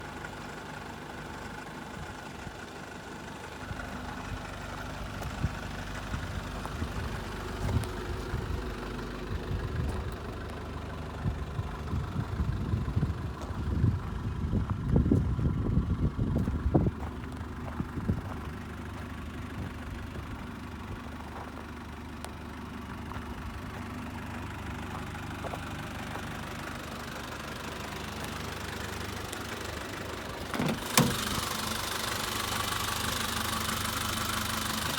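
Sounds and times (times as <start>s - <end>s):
diesel engine idling with clatter: 0.0s - 34.9s.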